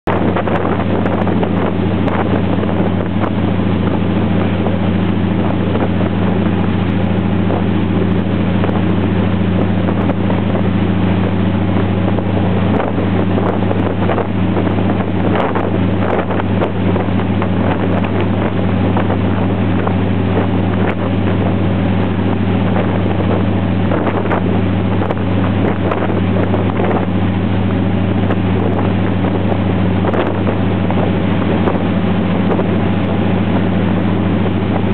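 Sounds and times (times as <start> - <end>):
ferry engine droning: 0.0 - 34.9
rushing water: 0.0 - 34.9
wind noise on microphone: 0.0 - 34.9.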